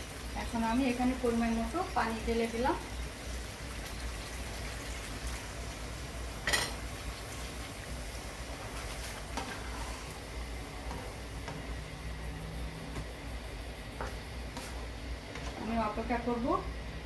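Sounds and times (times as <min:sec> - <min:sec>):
curry sizzling and bubbling: 0:00.0 - 0:17.0.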